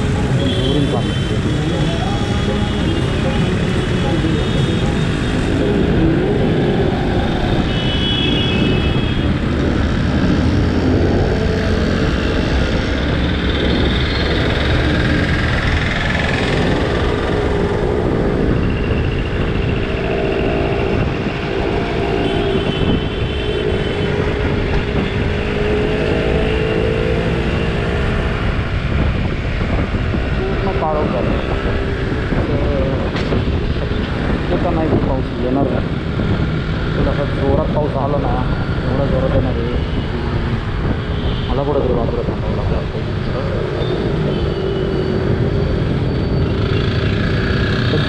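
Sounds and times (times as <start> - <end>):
surrounding traffic engines: 0.0 - 48.0.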